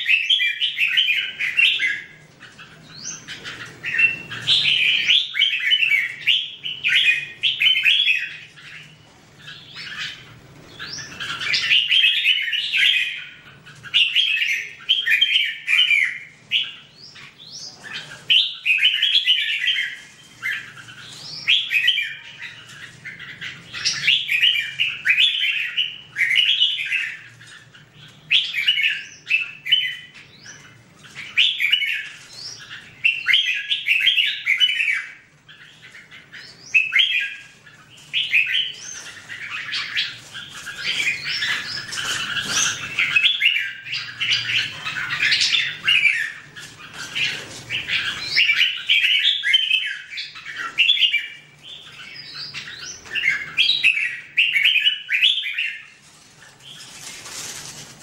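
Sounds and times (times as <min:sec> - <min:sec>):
birds singing chirping phrases: 0:00.0 - 0:58.0.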